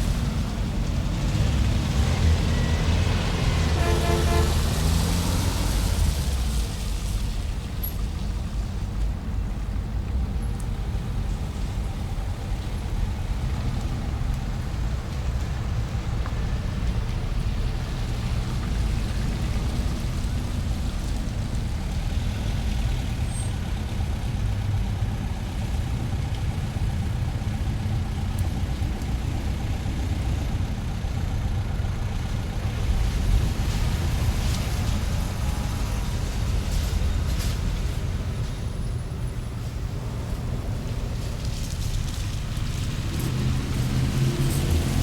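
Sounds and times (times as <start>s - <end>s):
car engines idling and driving by: 0.0s - 45.0s.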